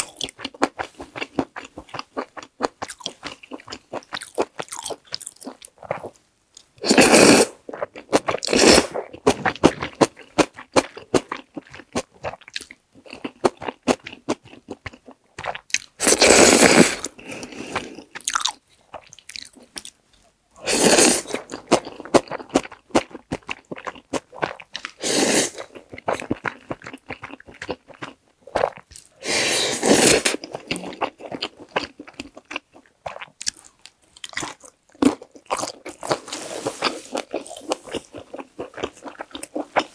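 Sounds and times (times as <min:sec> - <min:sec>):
wet chewing and crunching: 0:00.0 - 0:06.7, 0:07.7 - 0:16.2, 0:17.0 - 0:20.3, 0:20.9 - 0:29.2, 0:29.9 - 0:39.9.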